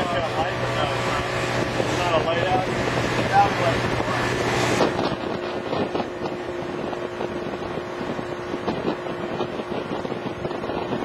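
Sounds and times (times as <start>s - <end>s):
motorboat engine humming: 0.0s - 11.0s
wind buffeting microphone: 0.0s - 11.0s.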